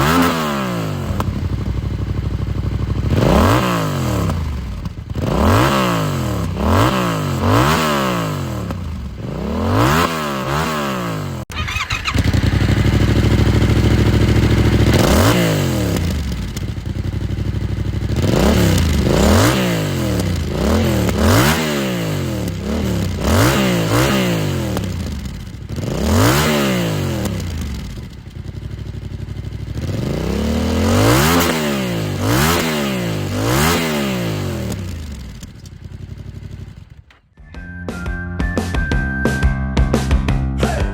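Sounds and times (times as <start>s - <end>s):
motorcycle engine revving: 0.0s - 37.2s.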